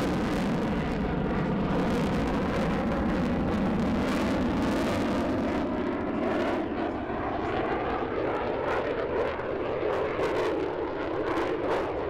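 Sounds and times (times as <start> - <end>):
loud jet engine with crackles: 0.0 - 12.0.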